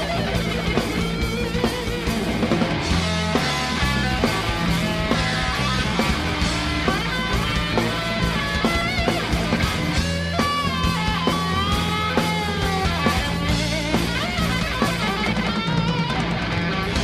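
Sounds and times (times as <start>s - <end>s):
bass line: 0.0s - 17.0s
drum beat: 0.0s - 17.0s
lead guitar bending notes: 0.0s - 17.0s.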